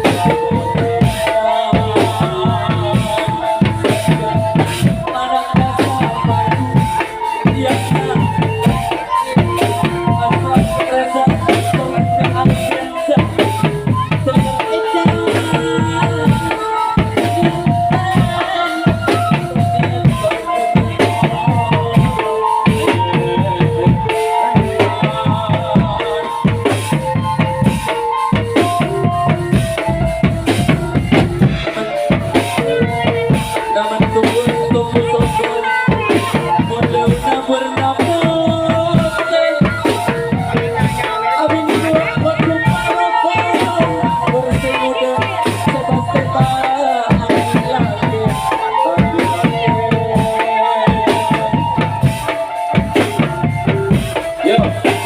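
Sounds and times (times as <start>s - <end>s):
bass and snare drums: 0.0s - 55.0s
held melody line: 0.0s - 55.0s.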